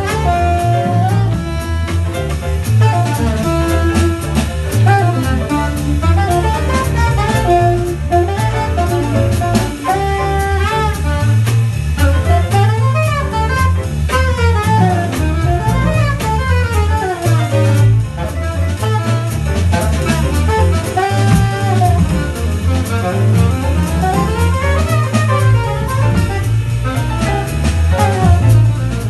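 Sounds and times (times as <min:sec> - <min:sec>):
drum kit cymbals: 0:00.0 - 0:29.0
guitar: 0:00.0 - 0:29.0
piano: 0:00.0 - 0:29.0
saxophone runs: 0:00.0 - 0:29.0
walking double bass: 0:00.0 - 0:29.0.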